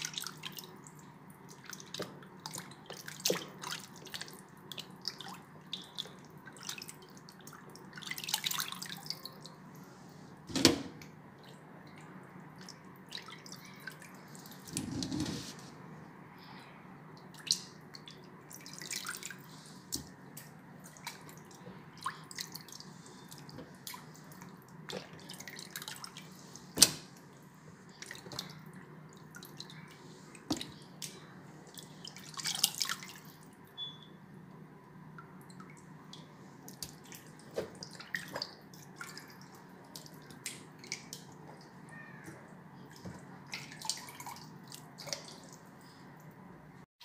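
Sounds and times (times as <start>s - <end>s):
water splashing in a basin: 0.0s - 9.6s, 10.9s - 15.2s, 17.2s - 27.3s, 27.9s - 34.0s, 35.2s - 42.0s, 42.8s - 45.9s.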